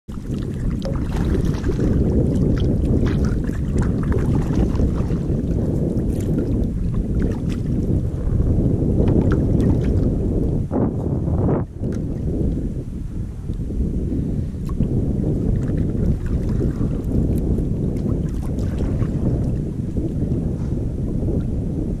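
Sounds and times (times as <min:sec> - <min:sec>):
water splashing against kayak: 0:00.1 - 0:12.8, 0:14.6 - 0:22.0
wind buffeting microphone: 0:00.1 - 0:22.0.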